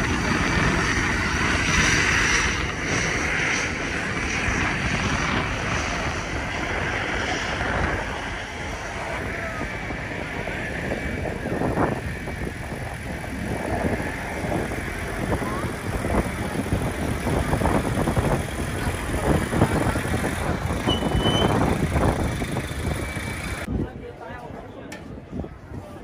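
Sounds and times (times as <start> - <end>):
aircraft engine drone: 0.0 - 23.7.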